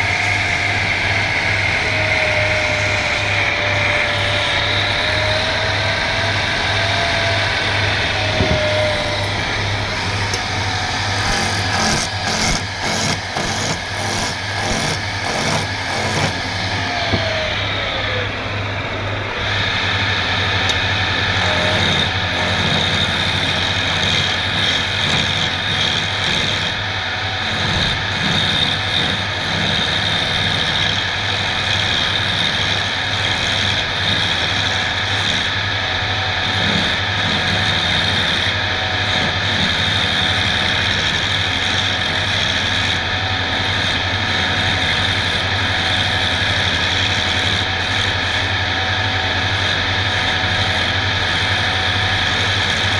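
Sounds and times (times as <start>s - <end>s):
woodworking machine motor humming: 0.0s - 52.9s.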